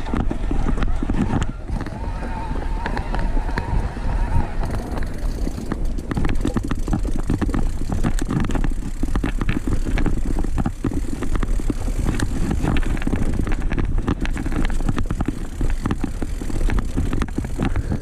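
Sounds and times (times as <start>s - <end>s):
bike rattling on rough trail: 0.0s - 18.0s
wind on microphone: 0.0s - 18.0s.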